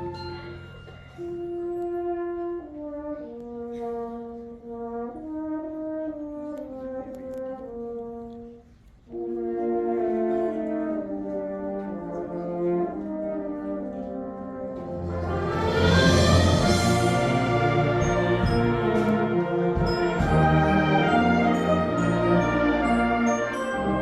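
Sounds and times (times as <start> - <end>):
instrumental band music: 0.0 - 24.0.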